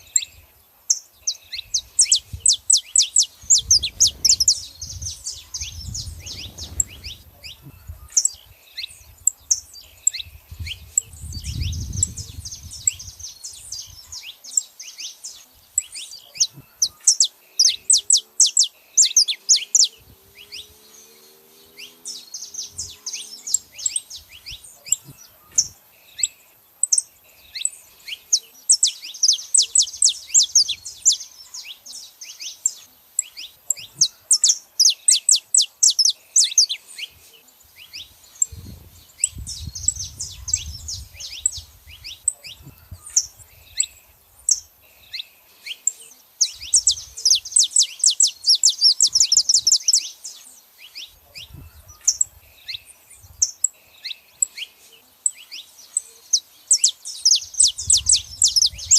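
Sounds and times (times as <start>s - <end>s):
finches chirping: 0.0s - 58.9s.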